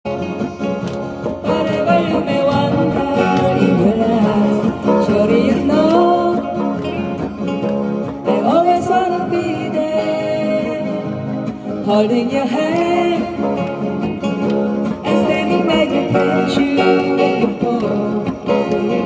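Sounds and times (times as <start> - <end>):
acoustic guitars strumming: 0.1 - 19.0
person singing: 1.2 - 19.0.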